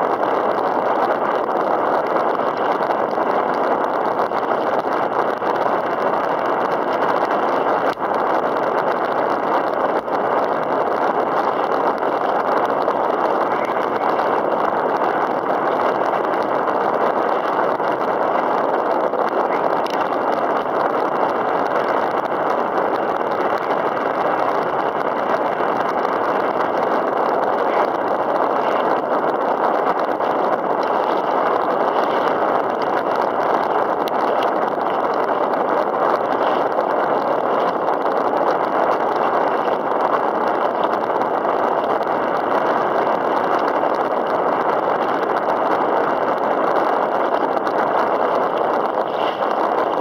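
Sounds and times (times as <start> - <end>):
choppy water around kayak: 0.0 - 50.0.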